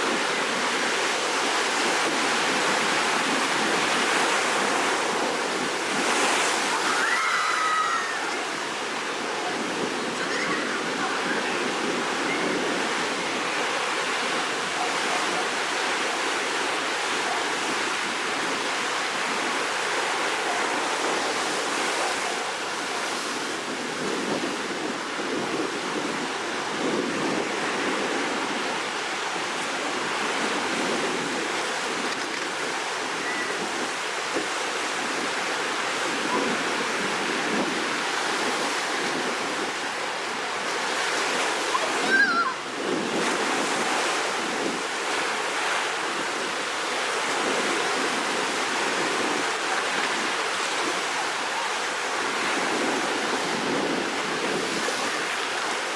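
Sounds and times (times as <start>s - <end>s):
surf breaking on shore: 0.0s - 55.9s.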